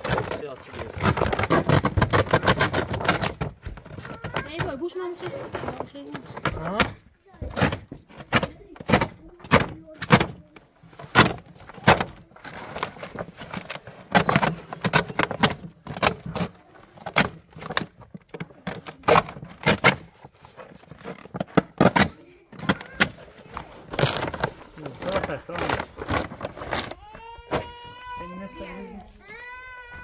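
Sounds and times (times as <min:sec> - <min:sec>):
scraping: 0:00.0 - 0:29.2.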